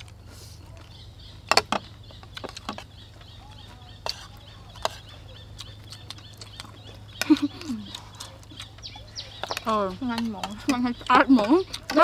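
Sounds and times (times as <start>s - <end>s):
rapid repeating chirping: 0.9s - 12.0s.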